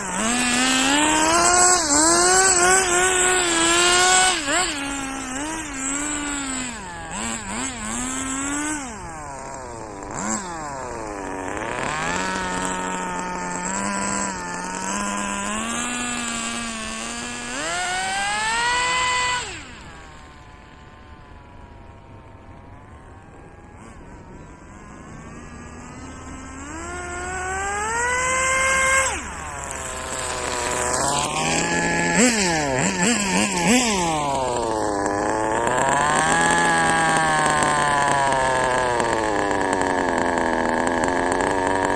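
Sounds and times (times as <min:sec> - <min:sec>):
small nitro engine revving: 0:00.0 - 0:41.9.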